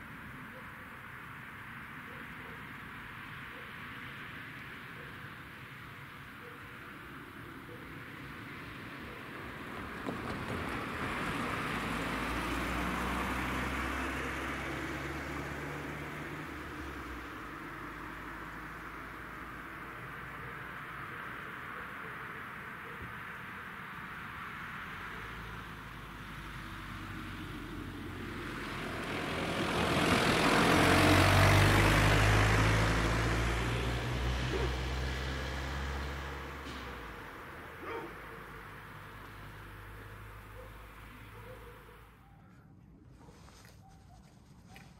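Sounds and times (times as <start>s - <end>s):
vehicle passing: 5.9s - 43.8s.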